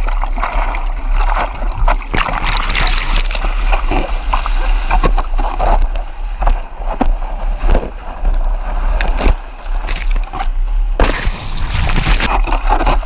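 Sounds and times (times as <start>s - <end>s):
water rushing and splashing: 0.0s - 13.0s
wind on microphone: 1.6s - 13.0s.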